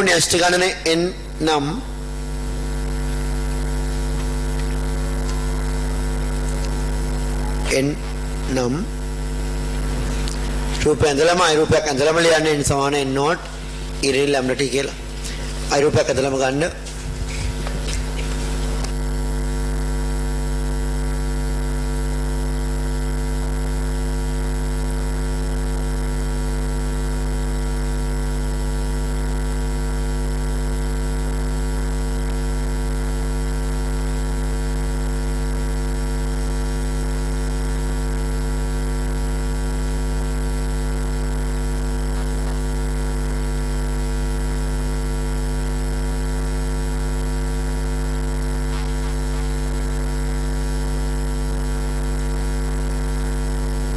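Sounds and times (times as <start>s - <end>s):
electrical mains hum: 0.0s - 53.9s.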